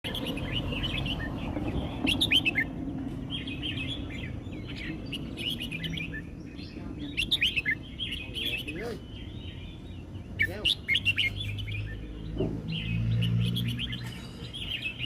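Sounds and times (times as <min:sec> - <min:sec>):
bird singing warbling phrases: 0:00.0 - 0:15.0.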